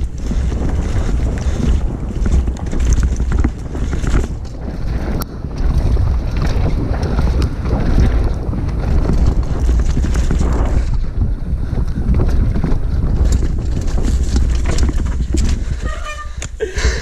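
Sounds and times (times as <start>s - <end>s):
bike rattling over rough ground: 0.0s - 17.0s
wind buffeting microphone: 0.0s - 17.0s.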